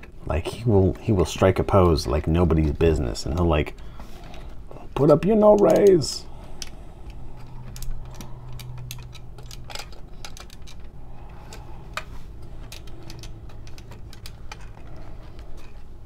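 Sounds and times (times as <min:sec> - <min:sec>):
hard plastic clicking: 0:02.4 - 0:16.0.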